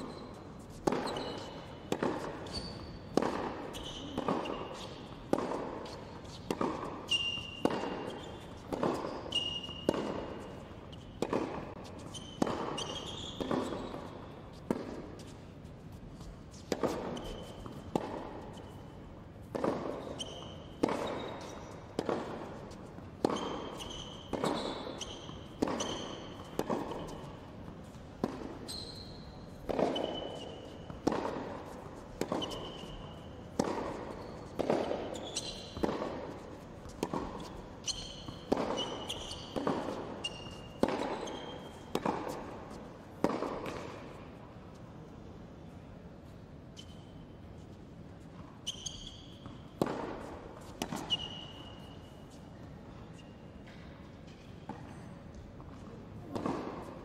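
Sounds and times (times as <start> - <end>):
shoe squeaks: 0.0 - 19.0, 19.8 - 42.8, 46.7 - 47.6, 48.4 - 53.6
tennis ball hit and bouncing: 0.0 - 44.8, 48.4 - 52.4, 53.6 - 57.0.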